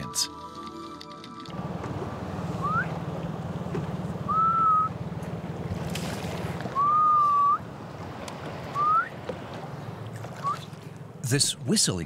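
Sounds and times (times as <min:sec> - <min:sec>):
low motor hum: 0:00.6 - 0:11.2.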